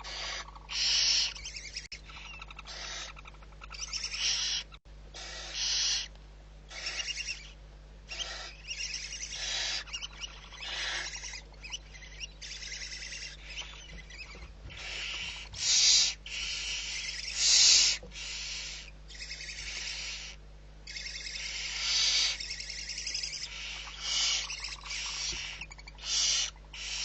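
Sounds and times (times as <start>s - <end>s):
owl screeching: 0.0s - 6.1s, 6.7s - 27.0s.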